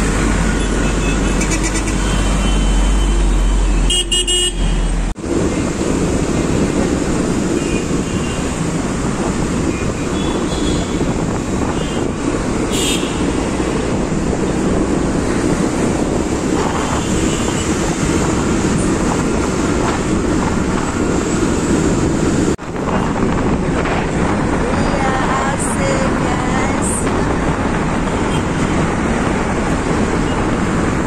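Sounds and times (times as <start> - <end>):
city traffic: 0.0 - 31.0
wind buffeting the microphone: 5.2 - 31.0.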